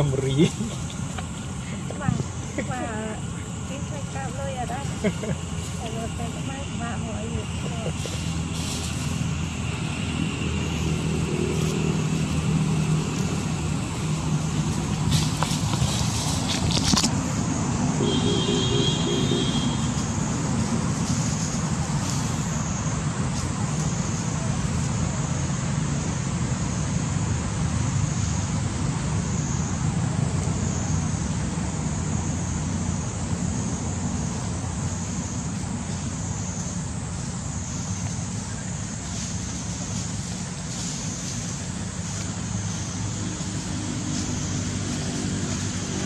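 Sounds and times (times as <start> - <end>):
high-pitched hiss: 0.0 - 46.0
low engine hum: 0.0 - 46.0.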